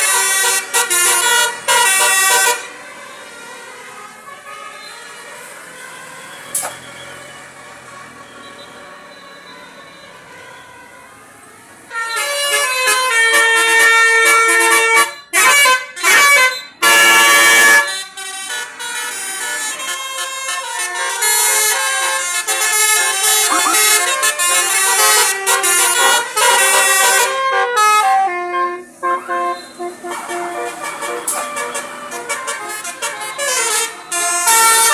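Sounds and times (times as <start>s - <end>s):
multi-tone bus horn melody: 0.0s - 11.2s, 11.9s - 34.9s.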